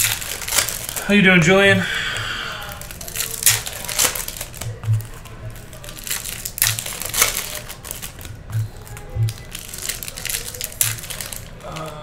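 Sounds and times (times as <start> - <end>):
foil wrapper crinkling and tearing: 0.0 - 1.5, 2.1 - 12.0.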